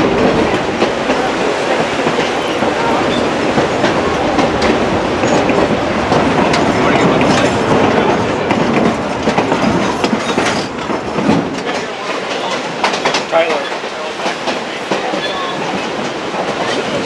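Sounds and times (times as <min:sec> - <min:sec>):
clacks over rail joints: 0:00.0 - 0:17.0
train wheels rumbling on rails: 0:00.0 - 0:17.0.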